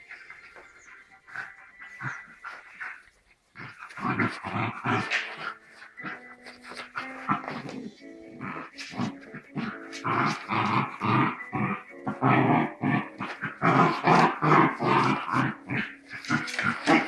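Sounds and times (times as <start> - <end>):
dogs growling and snarling: 1.3 - 17.0.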